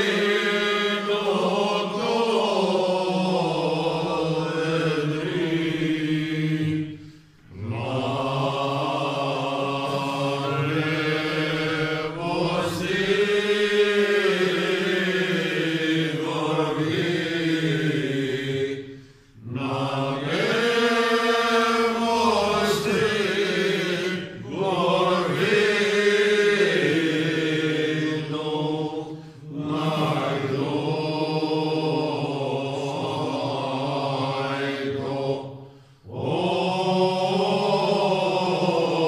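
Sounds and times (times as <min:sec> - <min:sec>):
men singing unaccompanied: 0:00.0 - 0:06.9, 0:07.5 - 0:18.8, 0:19.4 - 0:35.4, 0:36.1 - 0:39.0.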